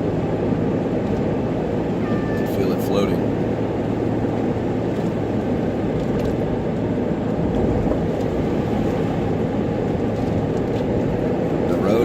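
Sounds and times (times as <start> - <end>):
truck engine and tyres rumbling: 0.0 - 12.0.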